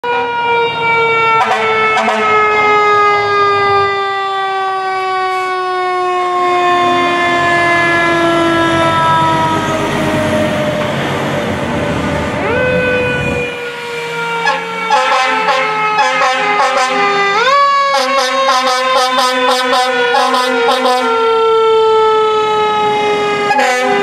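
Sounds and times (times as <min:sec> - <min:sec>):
fire truck siren: 0:00.0 - 0:24.0.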